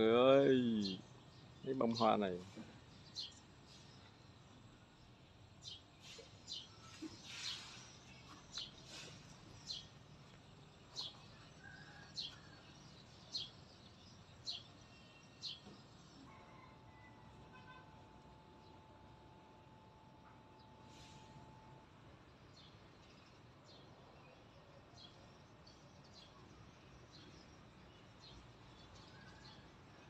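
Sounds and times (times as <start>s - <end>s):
faint outdoor background noise: 0.0s - 30.0s.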